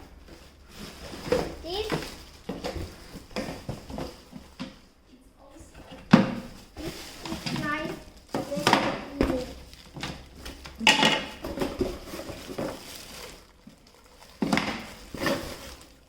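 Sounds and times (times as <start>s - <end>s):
plastic parts knocking and clattering: 0.0s - 4.9s, 5.8s - 16.0s
rustling: 0.0s - 4.9s, 5.6s - 16.0s.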